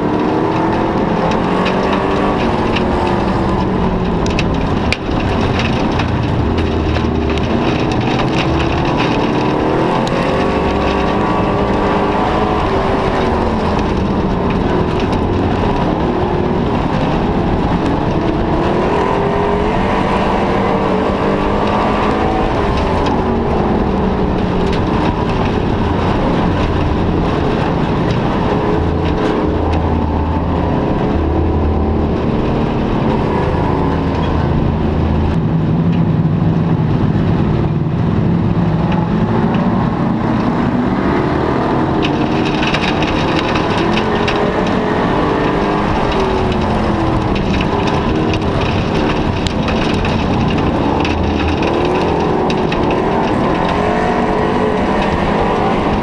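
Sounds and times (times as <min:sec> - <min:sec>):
race car engine: 0:00.0 - 0:56.0
rush of noise and rattling: 0:00.0 - 0:56.0.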